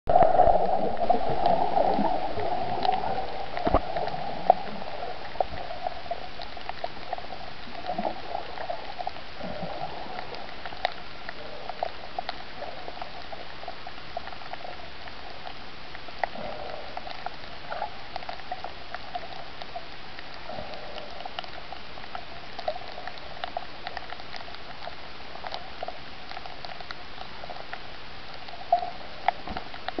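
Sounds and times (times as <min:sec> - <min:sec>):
muffled underwater wash: 0:00.1 - 0:30.0
underwater clicks and crackles: 0:00.1 - 0:30.0.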